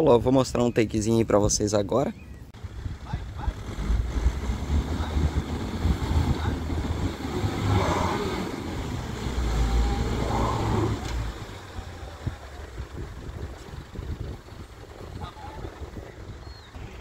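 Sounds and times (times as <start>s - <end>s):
vehicle engine low rumble: 1.4s - 17.0s.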